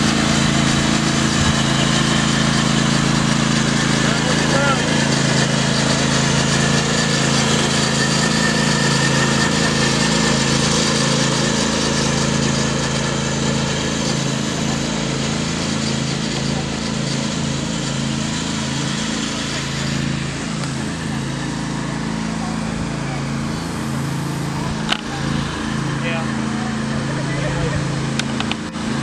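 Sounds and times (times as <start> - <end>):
riding lawn mower engine running: 0.0 - 29.0.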